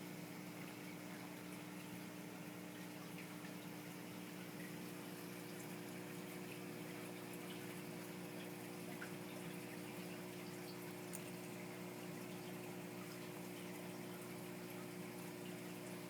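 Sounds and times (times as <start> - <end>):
pump hum: 0.0 - 16.0
trickling water: 0.0 - 16.0.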